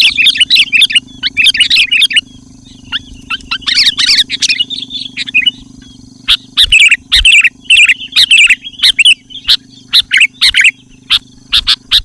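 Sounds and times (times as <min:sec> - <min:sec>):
bird chirping rapidly: 0:00.0 - 0:12.0.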